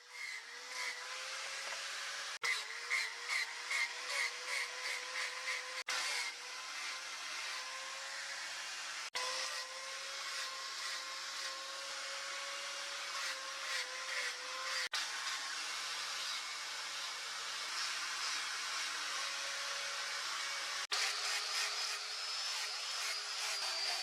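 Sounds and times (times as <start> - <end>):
power tool motor whining: 0.0 - 24.0.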